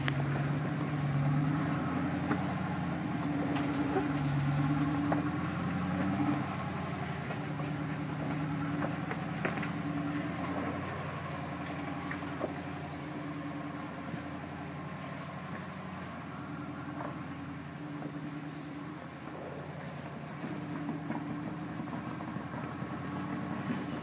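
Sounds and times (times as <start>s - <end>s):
engine running at low revs: 0.0s - 24.0s.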